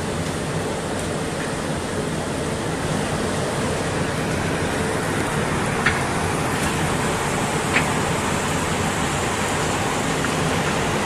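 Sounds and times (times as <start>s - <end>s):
steam boiler rushing: 0.0s - 11.0s.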